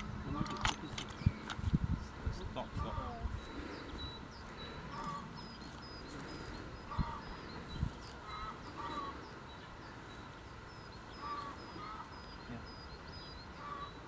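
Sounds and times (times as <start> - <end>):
faint honking bird calls: 2.5 - 14.0.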